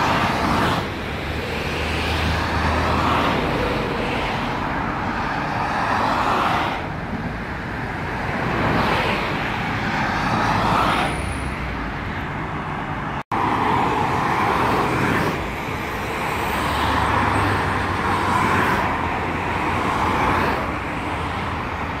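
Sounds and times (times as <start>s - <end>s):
expressway traffic rushing: 0.0s - 22.0s.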